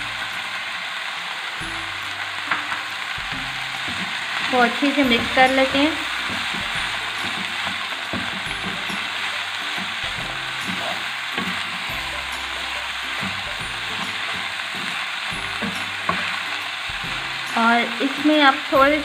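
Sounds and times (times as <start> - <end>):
food sizzling in frying pan: 0.0 - 19.0
quiet background music: 0.0 - 19.0
wooden spatula stirring: 2.4 - 19.0.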